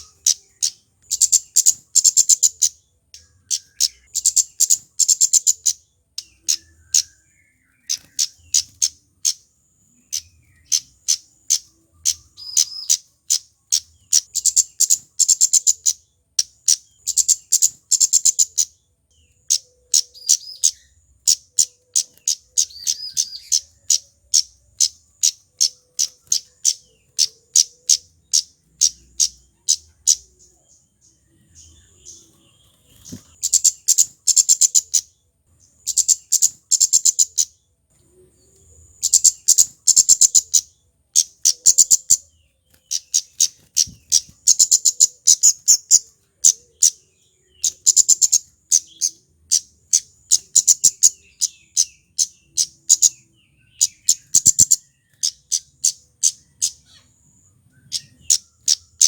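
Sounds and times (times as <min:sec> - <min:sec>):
bird high ticking song: 0:00.0 - 0:59.0.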